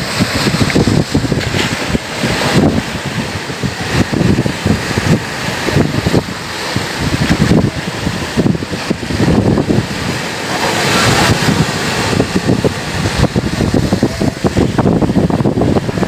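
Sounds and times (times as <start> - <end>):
gusty wind buffeting microphone: 0.0 - 16.0
waves breaking at shore: 0.0 - 16.0.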